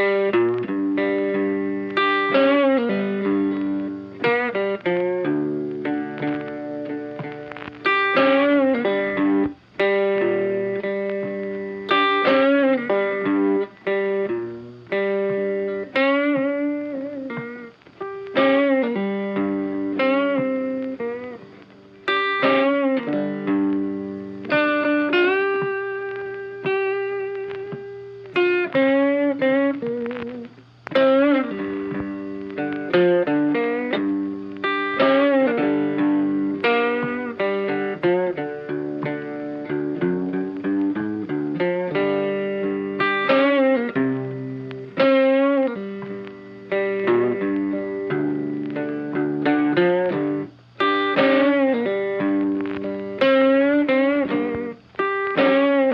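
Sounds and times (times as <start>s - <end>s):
funky guitar music: 0.0s - 55.9s.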